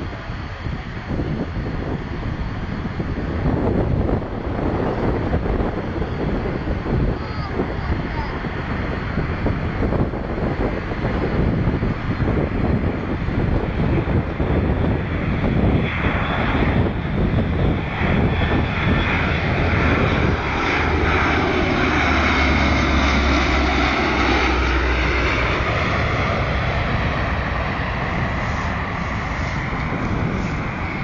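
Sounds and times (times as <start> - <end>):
turboprop engines droning: 0.0 - 31.0.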